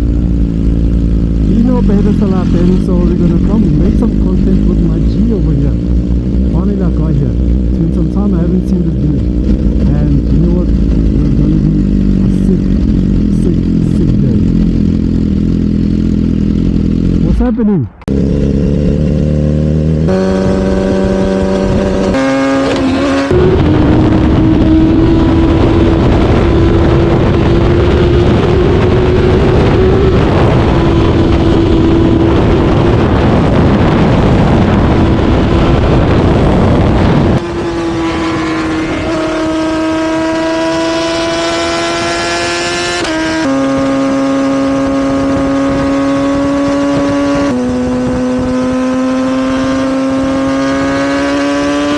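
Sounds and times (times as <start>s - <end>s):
loud wind rush: 0.0s - 51.9s
motorcycle engine: 0.0s - 51.9s.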